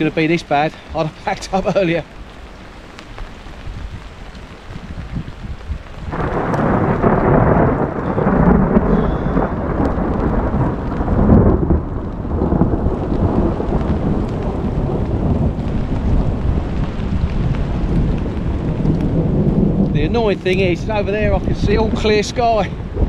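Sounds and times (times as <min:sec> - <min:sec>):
heavy rain falling: 0:00.0 - 0:23.0
thunder rumbling: 0:00.0 - 0:23.0.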